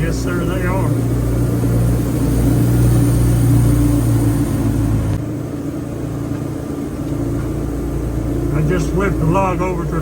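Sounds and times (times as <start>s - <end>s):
sawmill engine humming: 0.0s - 10.0s.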